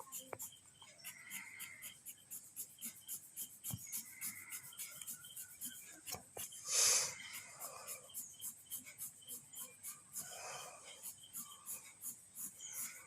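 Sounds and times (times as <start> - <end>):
pencil rubbing on paper: 0.0 - 13.0.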